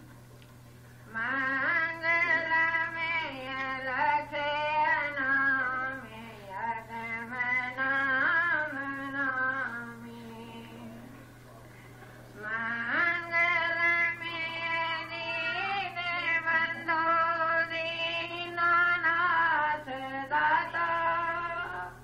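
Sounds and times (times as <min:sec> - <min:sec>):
steady low hum: 0:00.0 - 0:22.0
person singing devotional song: 0:01.1 - 0:11.3, 0:12.4 - 0:22.0.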